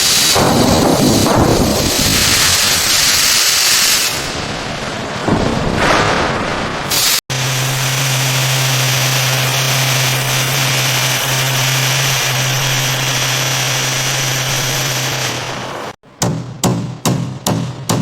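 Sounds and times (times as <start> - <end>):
machine humming and hissing: 0.0 - 16.0.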